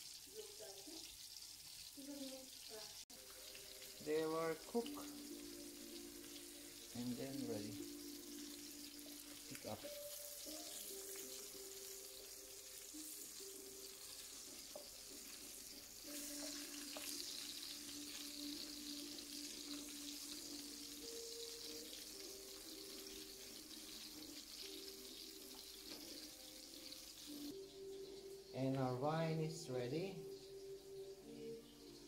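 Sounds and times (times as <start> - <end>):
shrimp sizzling in hot oil: 0.0 - 32.0
slow background melody: 3.1 - 32.0.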